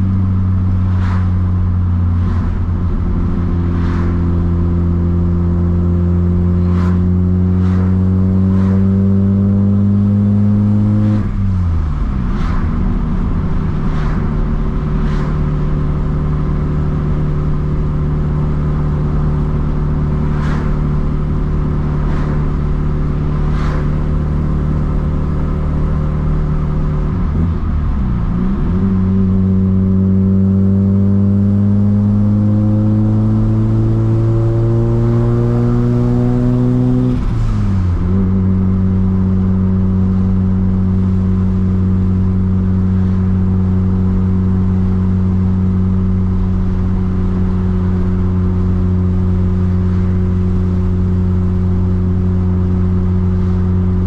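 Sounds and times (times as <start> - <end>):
turbocharged rotary engine running: 0.0 - 54.0.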